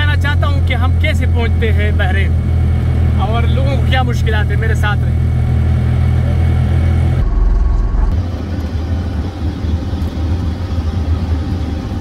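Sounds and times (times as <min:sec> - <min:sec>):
motorcycle rickshaw engine: 0:00.0 - 0:12.0
road noise: 0:00.0 - 0:12.0.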